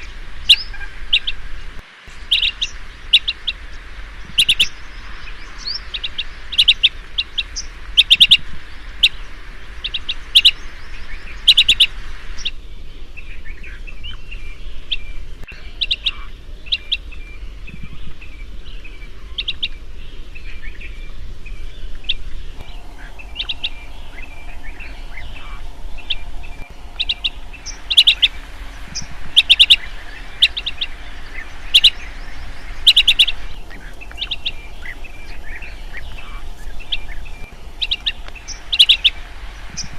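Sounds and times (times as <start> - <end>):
bird chirping: 0.0 - 8.4, 13.2 - 39.9.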